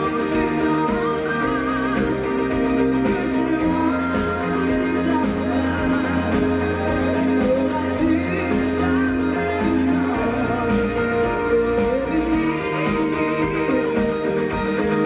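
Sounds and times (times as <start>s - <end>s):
live pop band playing: 0.0s - 15.0s
people singing: 0.0s - 15.0s.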